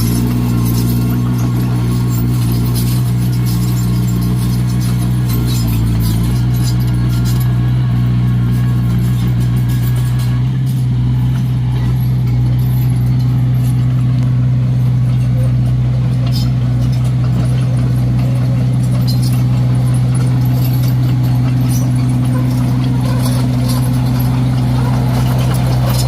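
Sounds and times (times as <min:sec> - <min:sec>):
bulldozer diesel engine running: 0:00.0 - 0:26.0
light metallic clinks: 0:00.0 - 0:26.0.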